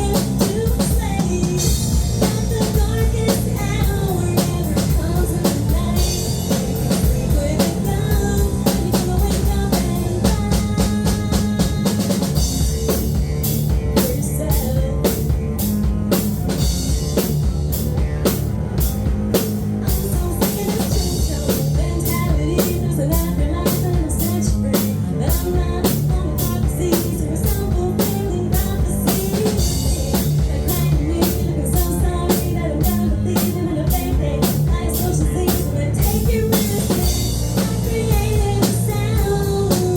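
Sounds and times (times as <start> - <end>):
instrumental rock music: 0.0 - 39.9.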